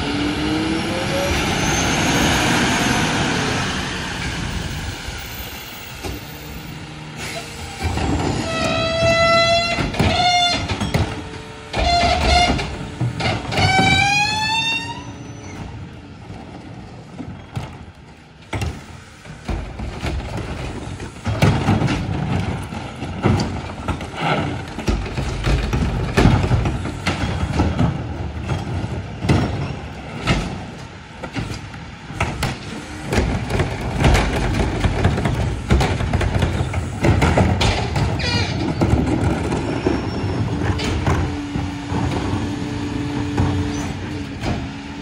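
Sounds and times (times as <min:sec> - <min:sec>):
plastic carts clunking and banging: 0:07.8 - 0:14.9, 0:15.5 - 0:45.0.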